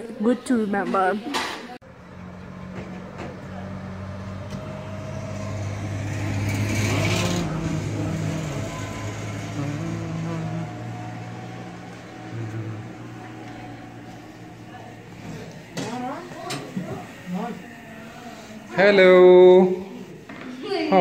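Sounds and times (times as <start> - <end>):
car passing: 1.8 - 19.3.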